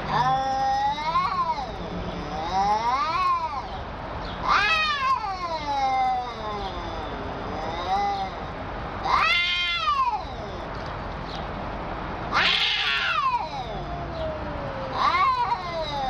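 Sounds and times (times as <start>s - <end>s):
low wavering cat yowl: 0.0s - 3.8s, 4.4s - 10.8s, 12.3s - 16.0s
cat meowing loudly: 0.1s - 3.8s, 4.4s - 10.7s, 12.3s - 16.0s.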